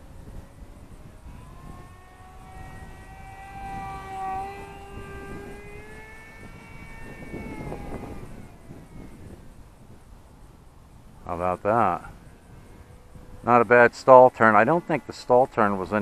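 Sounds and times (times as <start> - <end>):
electric motor and propeller whine: 0.0 - 16.0
wind rumble on microphone: 0.0 - 16.0.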